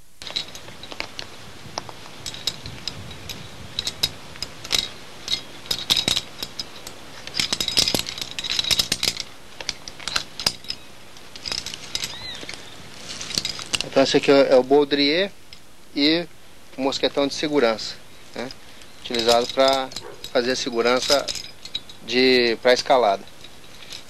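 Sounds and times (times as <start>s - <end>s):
metal carabiners clinking: 0.2s - 16.2s, 16.8s - 24.0s.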